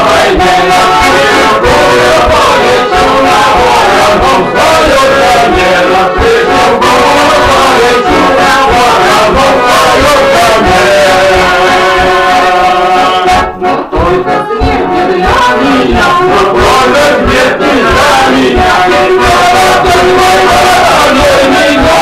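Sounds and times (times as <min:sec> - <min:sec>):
button accordion playing: 0:00.0 - 0:22.0
group singing along: 0:00.0 - 0:22.0
man singing folk song: 0:00.0 - 0:22.0.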